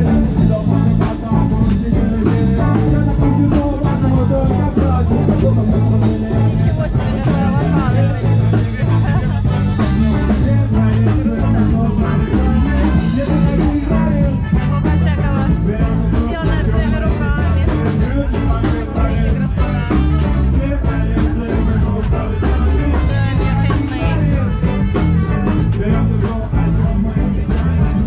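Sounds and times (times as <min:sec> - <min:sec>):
live ska band playing: 0:00.0 - 0:28.0
person singing: 0:00.0 - 0:28.0.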